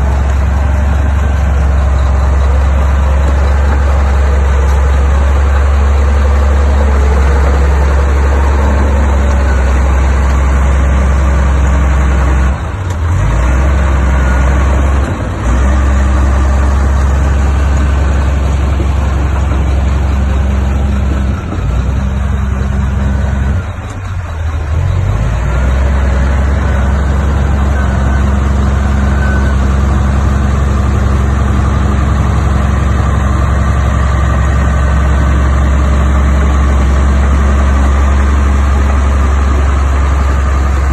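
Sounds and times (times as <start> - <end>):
heavy diesel engine drone: 0.0 - 40.9.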